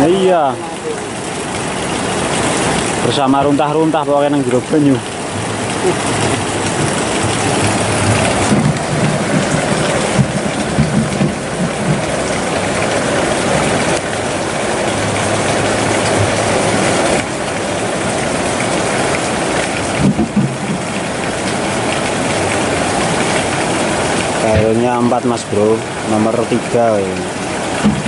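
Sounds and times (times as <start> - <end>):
river water flowing over rocks: 0.0 - 28.0
low bumps: 1.2 - 28.0.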